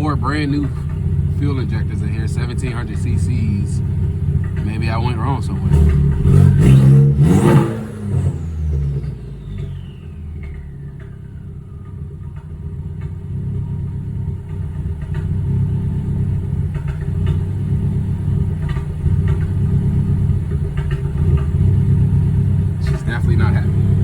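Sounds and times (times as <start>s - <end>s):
car engine misfiring: 0.0s - 24.0s.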